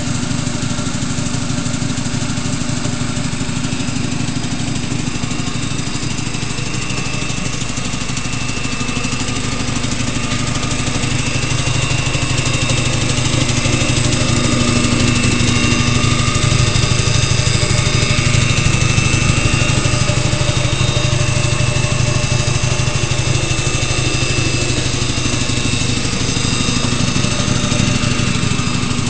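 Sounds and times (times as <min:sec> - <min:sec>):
air compressor pulsing: 0:00.0 - 0:29.0.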